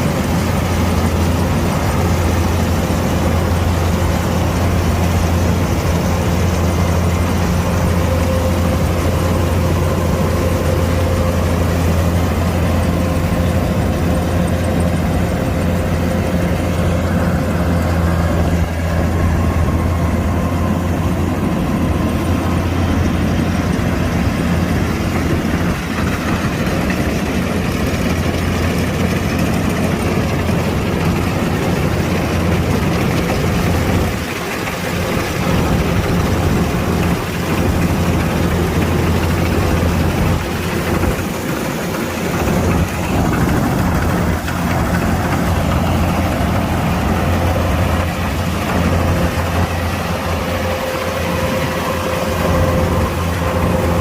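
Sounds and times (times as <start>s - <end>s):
diesel engine low hum: 0.0s - 54.0s.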